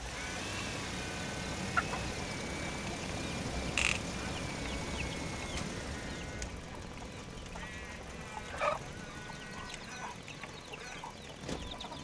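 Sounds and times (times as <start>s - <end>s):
toy gear motors whining: 0.0s - 12.0s.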